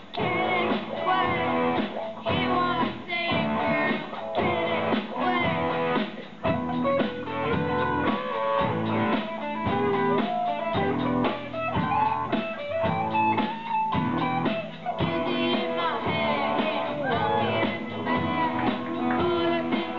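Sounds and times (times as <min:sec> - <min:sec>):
live rock band with guitar: 0:00.0 - 0:19.9.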